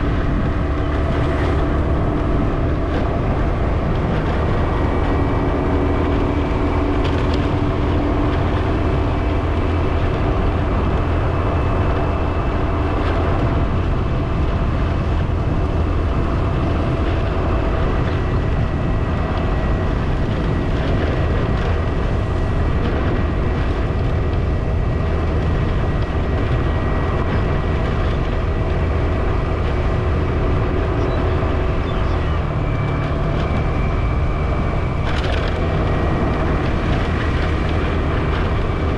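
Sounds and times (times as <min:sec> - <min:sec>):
faint steady whines: 0:00.0 - 0:38.9
vehicle engine and road noise: 0:00.0 - 0:38.9.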